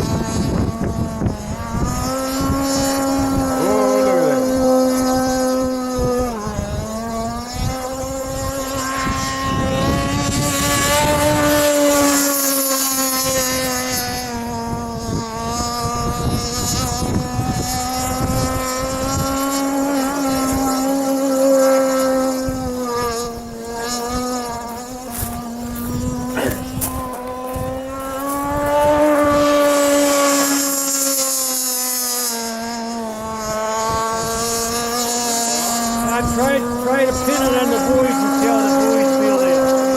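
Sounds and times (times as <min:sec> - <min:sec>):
wind buffeting microphone: 0:00.0 - 0:31.2, 0:32.7 - 0:39.9
model boat engine buzzing: 0:00.0 - 0:39.9.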